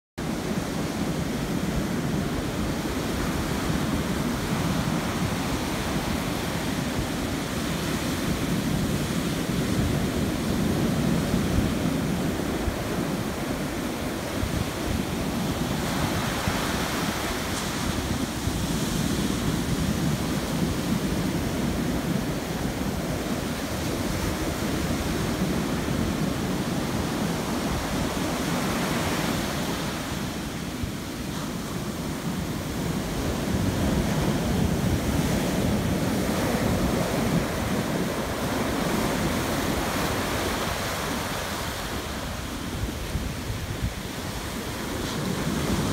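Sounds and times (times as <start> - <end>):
surf breaking on beach: 0.2 - 45.9
wind rumbling on microphone: 0.2 - 45.9.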